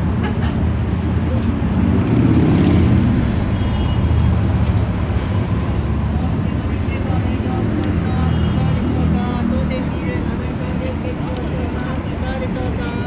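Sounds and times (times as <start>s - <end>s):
street traffic rumble: 0.0s - 13.0s
vehicle passing: 1.0s - 13.0s.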